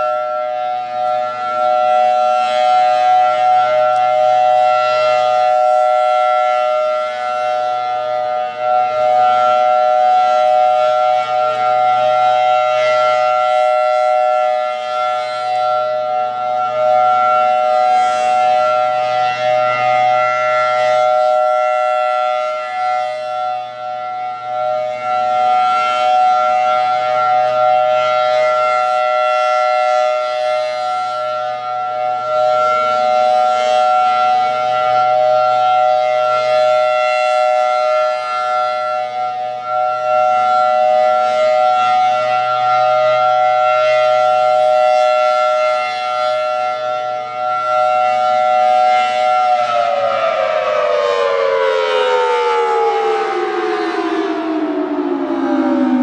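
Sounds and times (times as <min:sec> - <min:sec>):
warning siren two-tone alert: 0:00.0 - 0:56.0.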